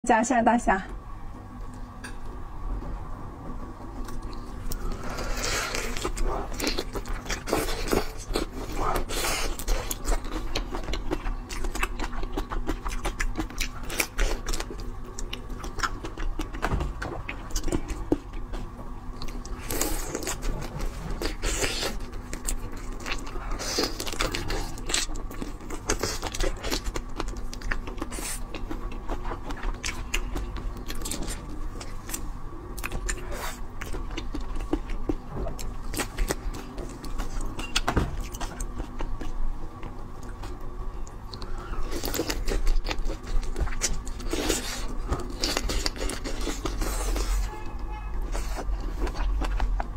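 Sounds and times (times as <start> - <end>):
chewing crunchy shrimp shells: 3.9 - 47.6, 48.3 - 49.9.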